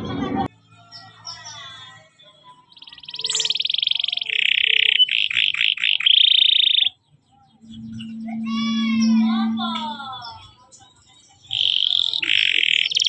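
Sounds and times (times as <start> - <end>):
canary singing: 0.5 - 13.0.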